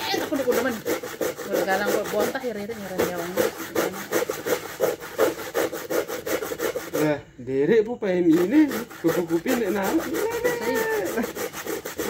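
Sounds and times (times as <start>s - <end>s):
coconut scraping on grater: 0.0s - 7.2s, 8.3s - 12.0s.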